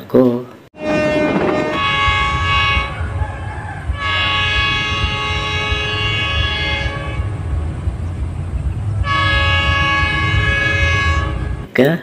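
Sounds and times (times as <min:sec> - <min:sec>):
train air horn blowing: 0:00.8 - 0:08.2, 0:08.9 - 0:11.7
low rumble of passing train: 0:00.8 - 0:11.8.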